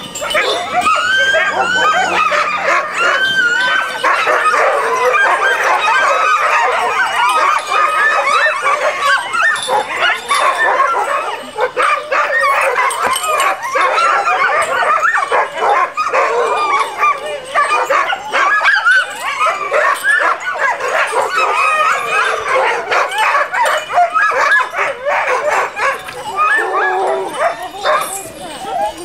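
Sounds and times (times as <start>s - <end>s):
sled dogs barking and yipping: 0.0s - 29.0s.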